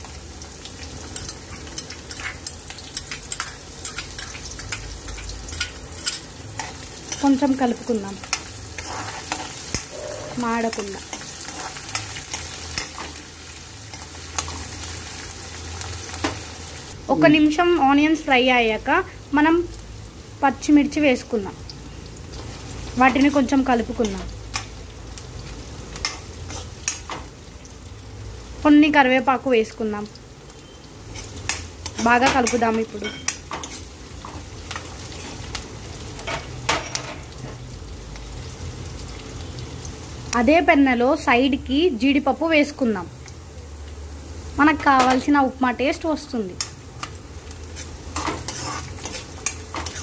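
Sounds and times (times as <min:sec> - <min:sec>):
onions sizzling in hot oil: 0:00.0 - 0:50.0.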